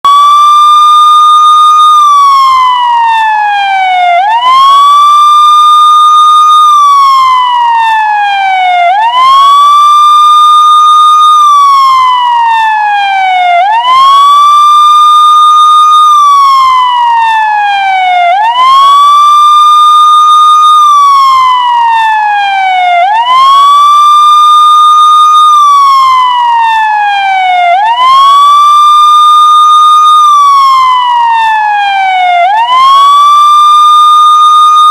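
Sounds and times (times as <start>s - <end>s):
police siren wailing: 0.0s - 34.9s.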